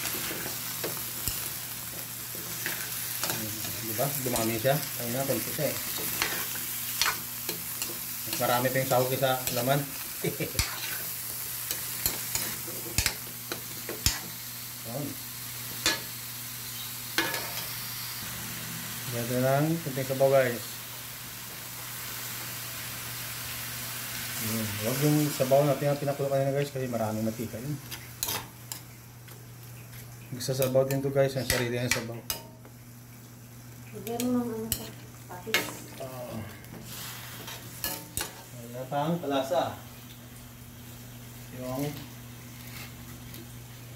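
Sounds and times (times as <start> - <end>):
food sizzling: 0.0 - 43.9.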